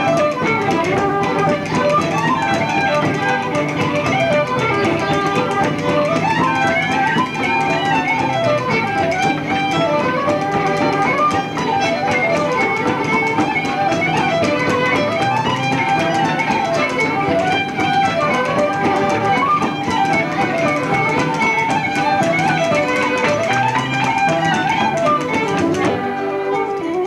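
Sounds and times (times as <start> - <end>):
traditional folk band playing: 0.0 - 27.0.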